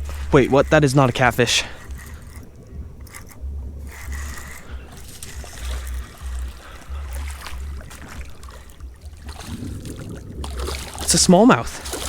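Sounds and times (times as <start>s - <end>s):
low rumble on microphone: 0.0s - 12.0s
river water washing: 0.0s - 12.0s.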